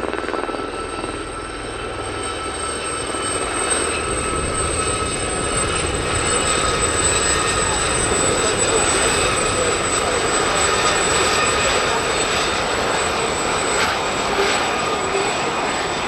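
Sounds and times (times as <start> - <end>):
helicopter turbine whine: 0.0 - 16.0
rotor and engine rumble: 0.0 - 16.0.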